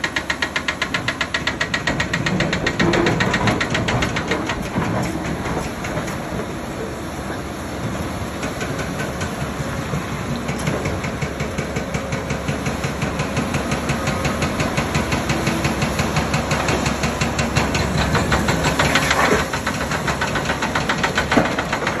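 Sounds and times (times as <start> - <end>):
excavator diesel engine under load: 0.0 - 22.0.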